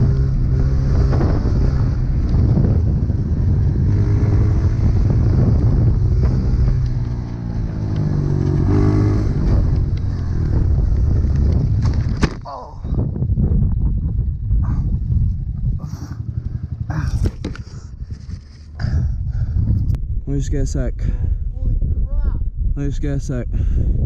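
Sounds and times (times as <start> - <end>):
dirt bike engine running hard: 0.0 - 20.1.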